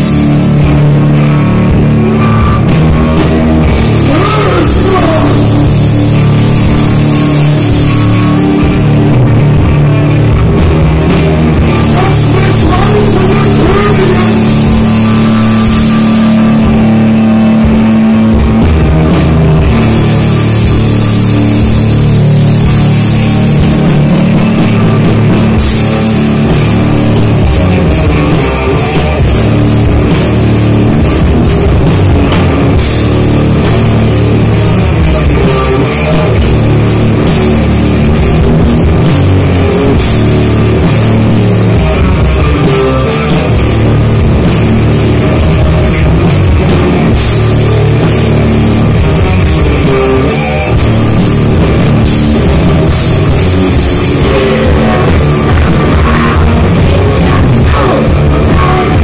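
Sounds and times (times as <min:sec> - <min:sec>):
drum kit: 0:00.0 - 0:59.0
electric guitars: 0:00.0 - 0:59.0
metal band playing live: 0:00.0 - 0:59.0.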